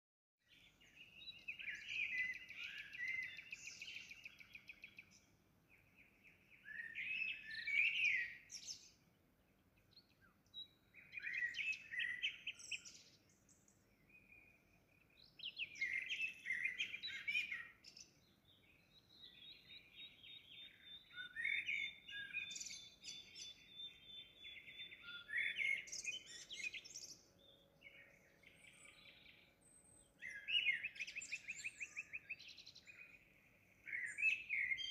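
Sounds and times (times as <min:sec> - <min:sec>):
songbirds singing: 0:00.4 - 0:34.9.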